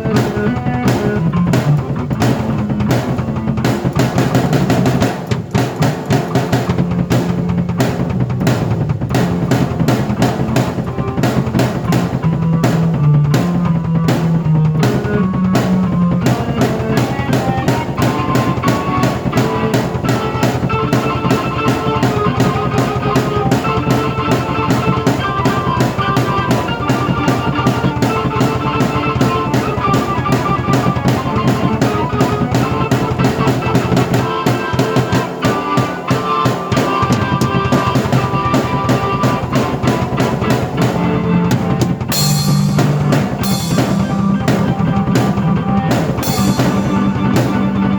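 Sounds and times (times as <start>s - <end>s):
low bass notes: 0.0s - 5.3s, 6.4s - 34.0s, 37.1s - 47.9s
drum kit beat: 0.0s - 47.9s
keyboard melody: 0.0s - 47.9s.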